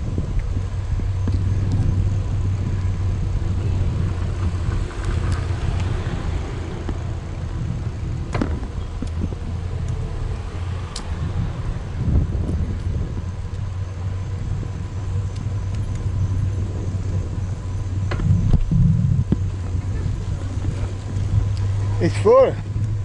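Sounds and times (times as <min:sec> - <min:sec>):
car rolling slowly: 0:00.0 - 0:23.0.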